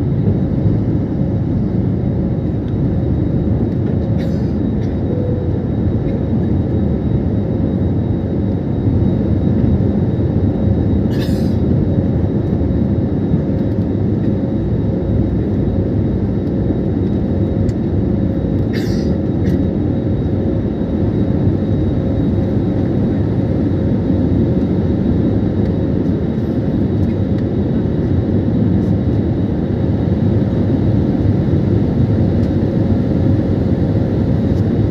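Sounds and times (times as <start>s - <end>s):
jet engine cabin rumble: 0.0s - 34.9s.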